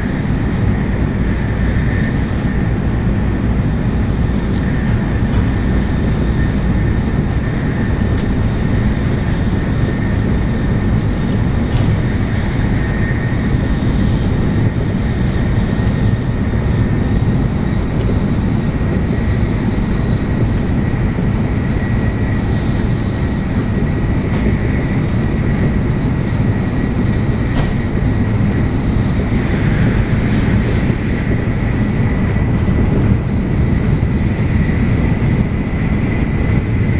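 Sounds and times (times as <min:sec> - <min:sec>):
train cabin rumble: 0:00.0 - 0:36.9.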